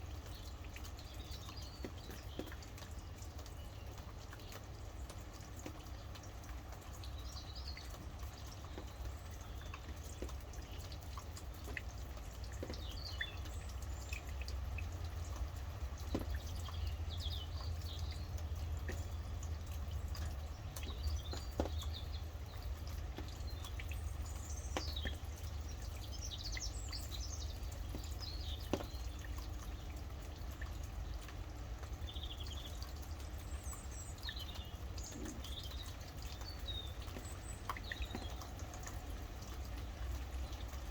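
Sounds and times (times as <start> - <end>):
rain dripping: 0.0 - 40.9
small birds chirping: 0.0 - 40.9.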